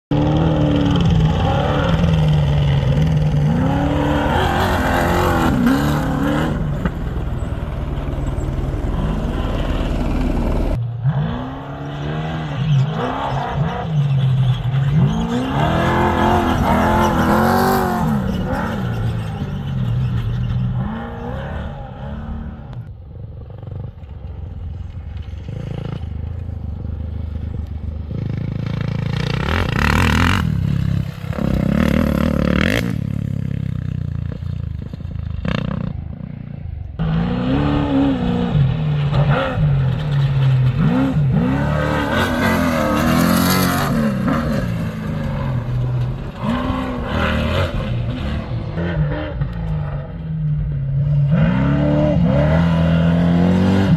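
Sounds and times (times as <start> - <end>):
race truck engines revving: 0.1 - 53.9.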